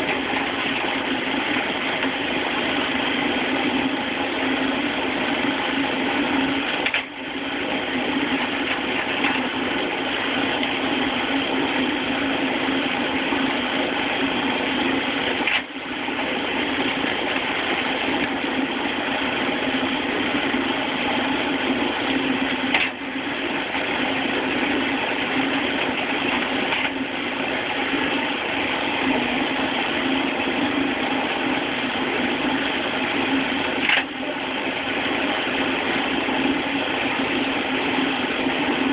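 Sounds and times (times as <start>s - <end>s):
firewood splitter humming: 0.0s - 38.9s.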